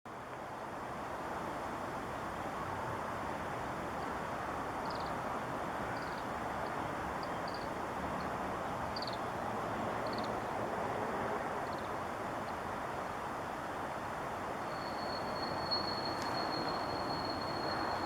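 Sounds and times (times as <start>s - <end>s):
steady background noise: 0.1s - 18.0s.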